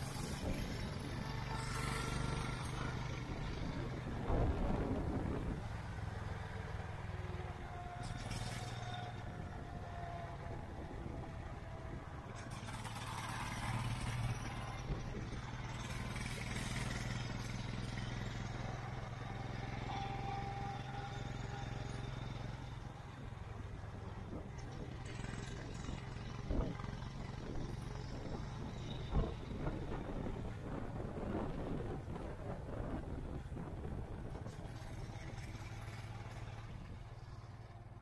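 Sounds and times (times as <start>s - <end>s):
wind buffeting microphone: 0.0s - 8.0s, 9.0s - 19.6s, 22.1s - 37.8s
motorcycle engine running: 0.0s - 38.0s.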